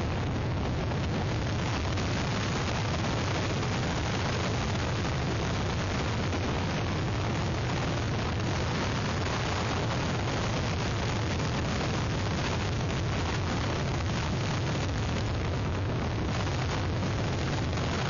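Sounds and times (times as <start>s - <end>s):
hurricane wind blasting microphone: 0.0s - 18.0s.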